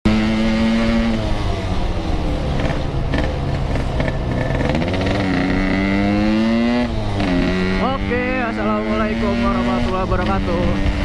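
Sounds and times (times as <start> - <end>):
two-stroke motorcycle engine: 0.1 - 11.0.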